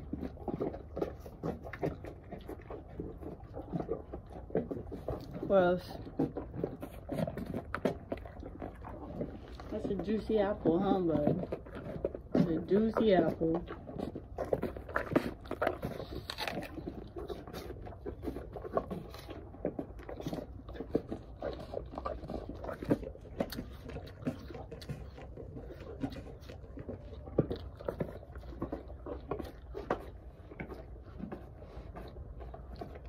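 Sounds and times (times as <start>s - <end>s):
horse chewing an apple: 0.0s - 33.0s.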